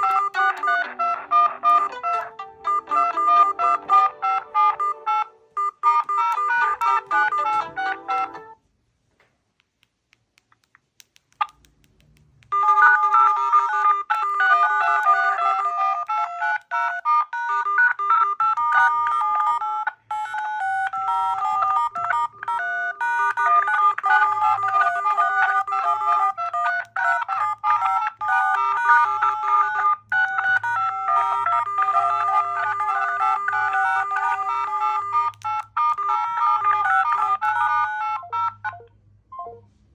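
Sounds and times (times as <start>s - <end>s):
mobile phone ringtone: 0.0s - 8.6s, 12.5s - 38.8s.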